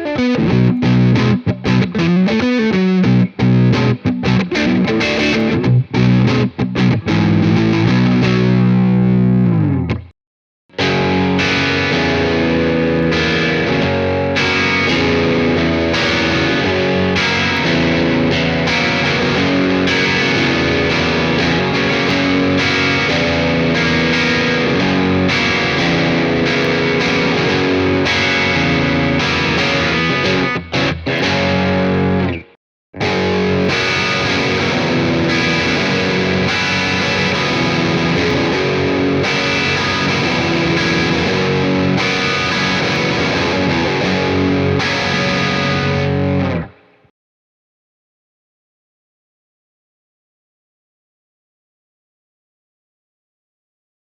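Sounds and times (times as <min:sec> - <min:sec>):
overdriven electric guitar riff: 0:00.0 - 0:10.1, 0:10.7 - 0:47.1.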